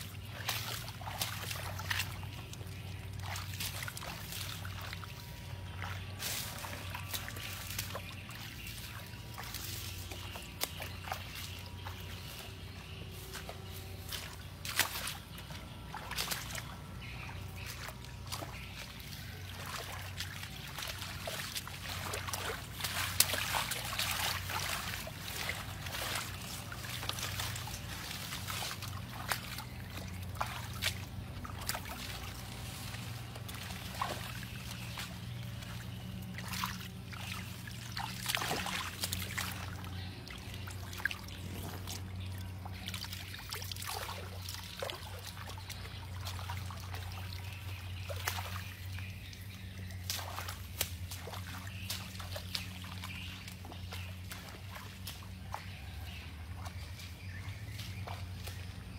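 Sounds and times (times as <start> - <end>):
steady low hum: 0.0 - 58.9
water trickling and sloshing: 0.0 - 58.9
splashes and clicks: 0.1 - 12.5, 13.3 - 58.9.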